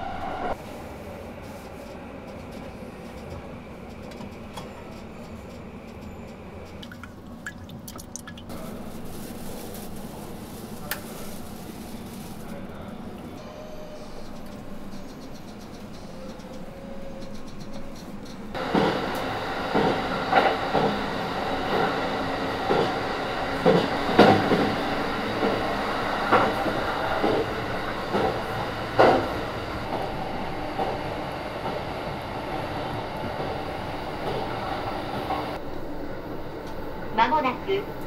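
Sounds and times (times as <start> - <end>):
train rumble and hum: 0.0 - 38.0.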